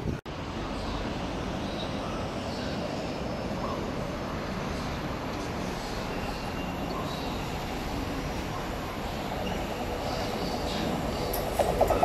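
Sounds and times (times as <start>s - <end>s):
diesel train rumbling drone: 0.0s - 12.0s.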